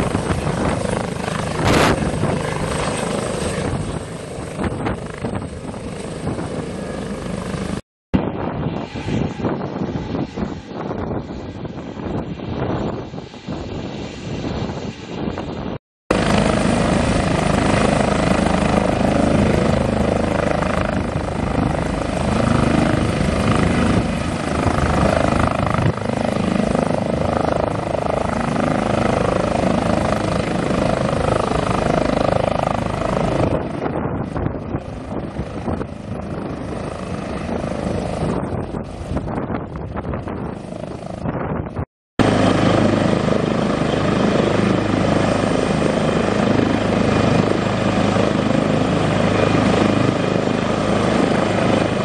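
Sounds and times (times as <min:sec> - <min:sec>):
helicopter rotor and turbine: 0:00.0 - 0:52.0.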